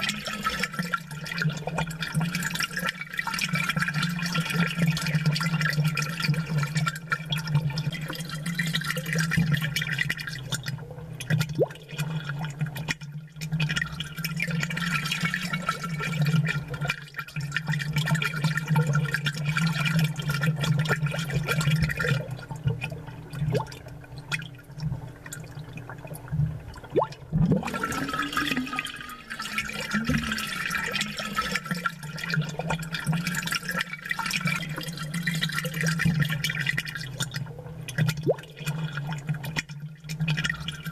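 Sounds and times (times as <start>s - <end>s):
aquarium water bubbling: 0.0s - 40.9s.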